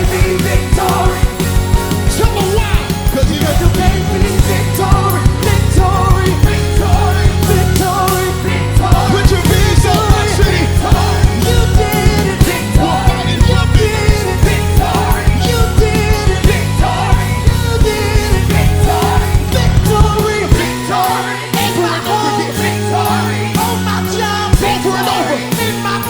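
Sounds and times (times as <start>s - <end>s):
steady drum beat: 0.0s - 26.0s
voices singing: 0.0s - 26.0s
worship band playing: 0.0s - 26.0s.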